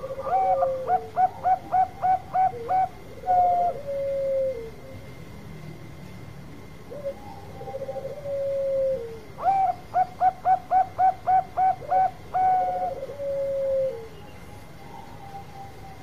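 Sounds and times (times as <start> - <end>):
dove singing trills and coos: 0.0 - 5.2, 6.8 - 16.0.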